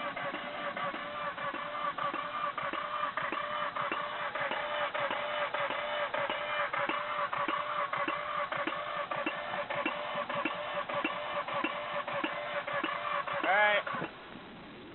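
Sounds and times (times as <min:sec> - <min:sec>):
engine knocking: 0:00.0 - 0:14.4
rotary engine whirring: 0:00.0 - 0:14.9.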